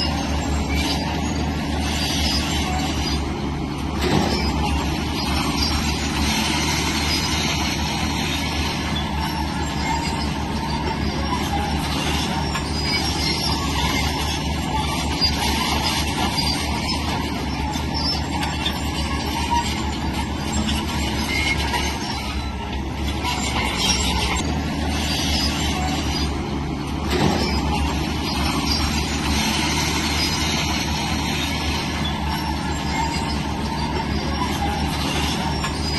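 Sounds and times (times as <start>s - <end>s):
bulldozer diesel engine under load: 0.0s - 35.9s.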